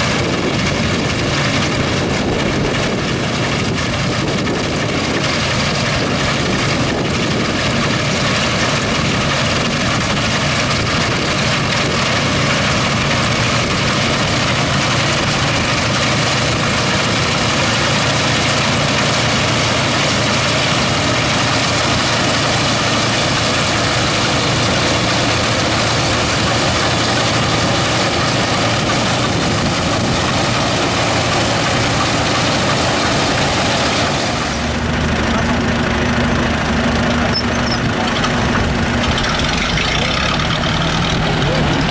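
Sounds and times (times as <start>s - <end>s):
heavy engine running: 0.0s - 41.9s.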